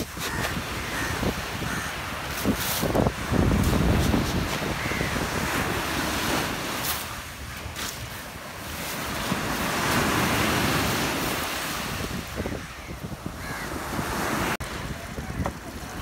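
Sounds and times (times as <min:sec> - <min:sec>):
surf washing on shore: 0:00.0 - 0:16.0
wind buffeting microphone: 0:00.0 - 0:16.0.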